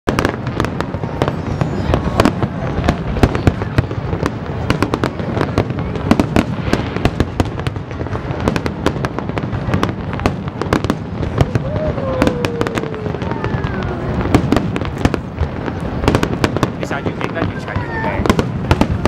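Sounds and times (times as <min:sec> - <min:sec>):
fireworks bursting: 0:00.1 - 0:19.0.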